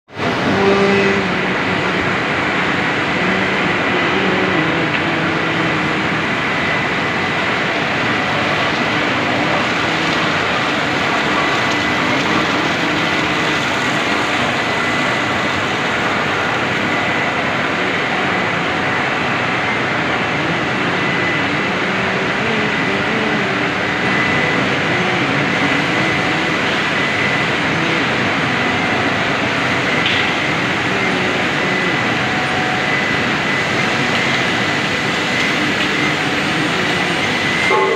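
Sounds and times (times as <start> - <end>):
thin high whine: 0.1 - 37.9.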